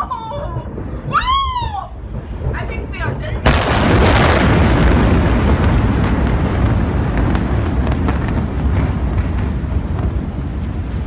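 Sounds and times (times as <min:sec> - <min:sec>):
explosion rumble: 0:00.0 - 0:11.0.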